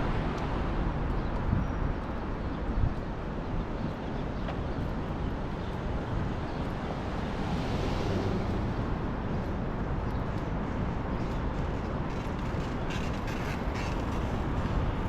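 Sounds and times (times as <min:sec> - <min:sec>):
traffic rumble: 0:00.0 - 0:15.0
wind: 0:00.0 - 0:15.0.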